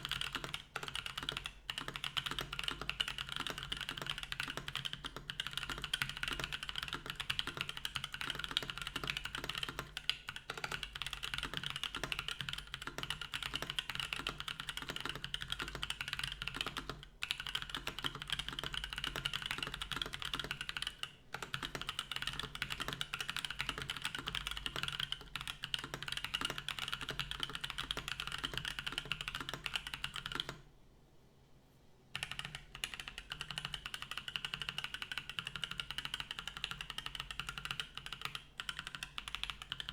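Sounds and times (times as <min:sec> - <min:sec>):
mechanical keyboard typing: 0:00.0 - 0:30.6, 0:32.1 - 0:39.9.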